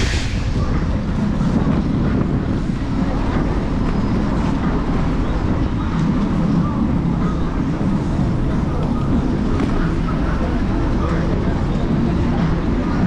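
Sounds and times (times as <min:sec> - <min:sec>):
road noise: 0:00.0 - 0:13.0
wind rumble: 0:00.0 - 0:13.0.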